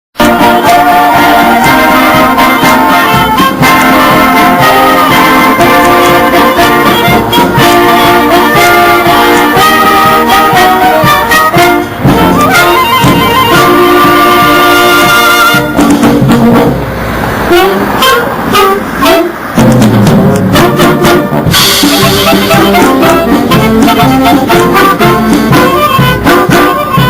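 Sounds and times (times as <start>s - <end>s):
brass band music: 0.2s - 27.0s.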